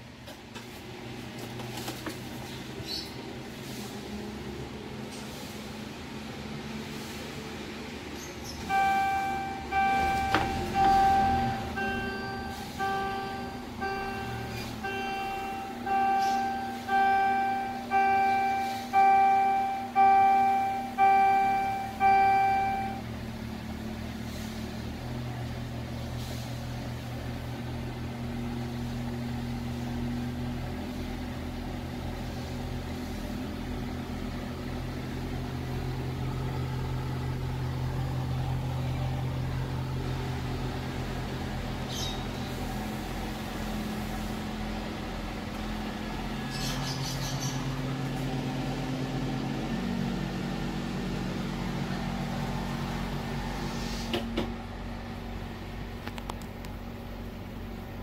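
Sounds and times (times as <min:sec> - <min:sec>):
bus engine humming: 0:00.0 - 0:58.0.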